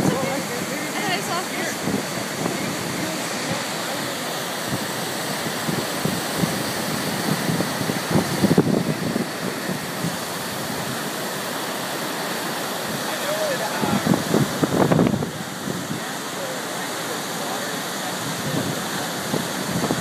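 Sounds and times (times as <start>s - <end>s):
wind buffeting microphone: 0.0s - 11.6s, 12.2s - 16.1s, 18.2s - 20.0s
water churning and rushing: 0.0s - 20.0s.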